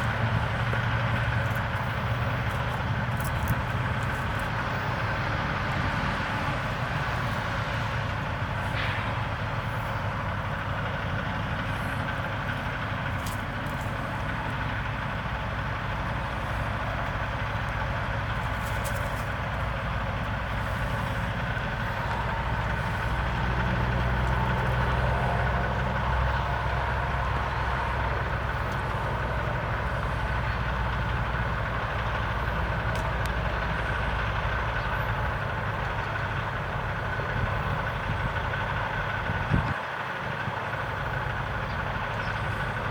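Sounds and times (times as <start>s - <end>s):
motor vehicle engine idling: 0.0s - 42.9s.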